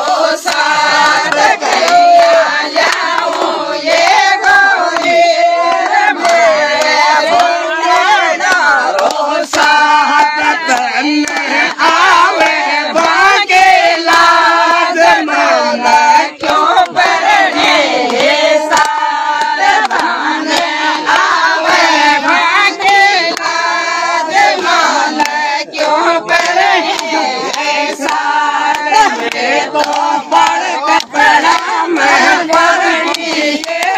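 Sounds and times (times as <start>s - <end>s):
group of women singing: 0.0s - 33.9s
hand claps: 0.0s - 33.9s.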